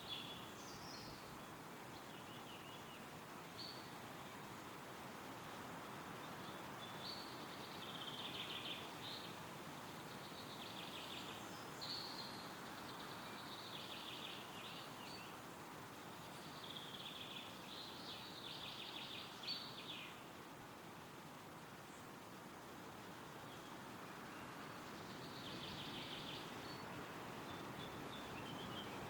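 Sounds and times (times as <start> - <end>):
songbird singing trills: 0.0 - 4.4, 5.8 - 15.4, 16.2 - 20.3, 23.4 - 29.0
wind rustling through trees: 0.0 - 29.0.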